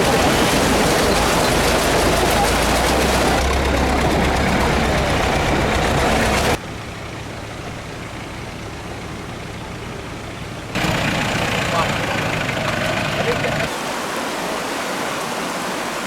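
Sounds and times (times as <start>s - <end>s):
vehicle engine rumbling: 0.0s - 13.7s.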